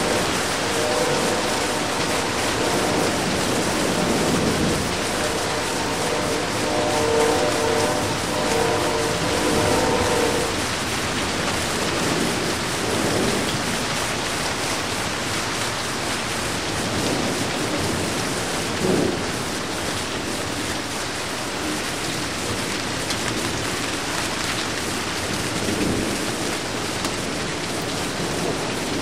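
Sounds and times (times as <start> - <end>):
low thunder rumbling: 0.0 - 29.0
steady rain: 0.0 - 29.0.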